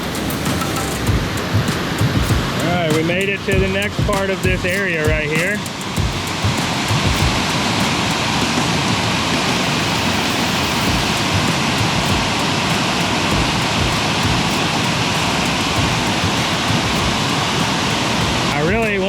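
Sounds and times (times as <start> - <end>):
creek rushing over waterfall: 0.0 - 19.0.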